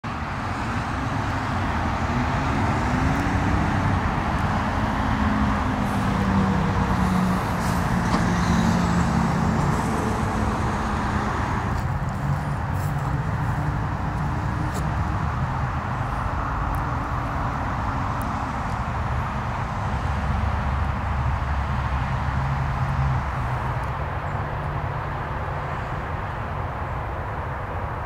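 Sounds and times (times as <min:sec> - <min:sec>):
road traffic noise: 0:00.0 - 0:28.0
vehicle engine hum: 0:00.0 - 0:28.0.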